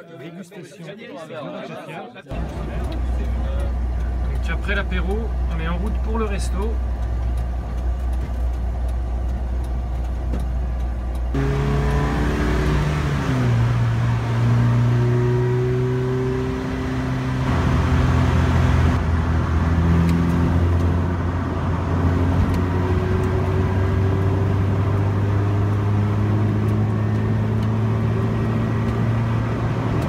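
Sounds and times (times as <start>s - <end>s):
car engine and road noise: 2.3s - 30.0s.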